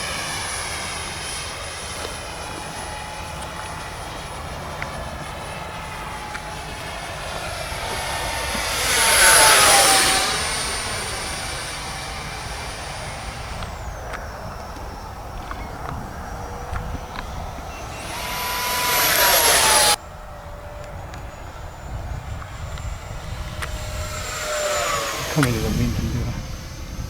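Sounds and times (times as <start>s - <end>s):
model jet whine: 0.0s - 27.0s.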